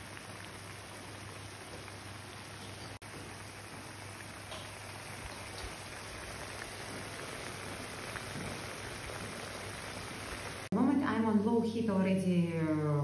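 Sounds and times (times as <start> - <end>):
stock boiling and sizzling: 0.0 - 10.9.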